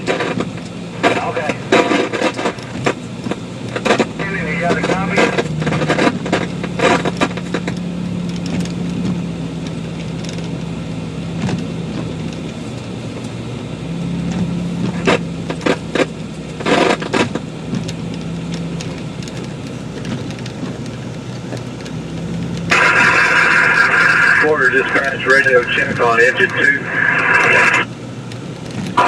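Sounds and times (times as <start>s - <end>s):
car engine and road noise hum: 0.0s - 29.0s.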